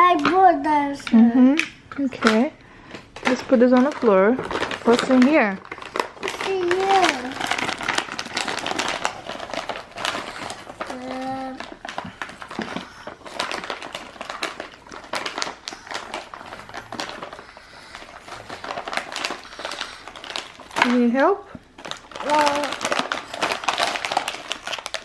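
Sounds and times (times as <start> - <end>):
plastic packaging crinkling: 2.2 - 25.0.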